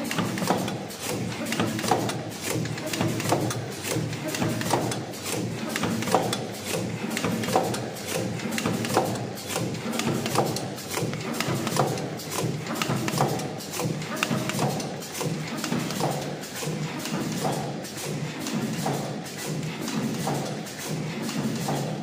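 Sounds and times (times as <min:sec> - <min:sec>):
clatter of mechanical ticks: 0:00.0 - 0:22.0
packaging machine sharp clack: 0:00.0 - 0:22.0.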